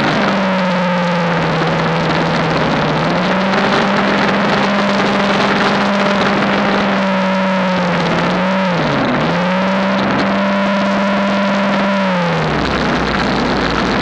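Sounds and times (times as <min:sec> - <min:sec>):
snowblower engine under load: 0:00.0 - 0:14.0.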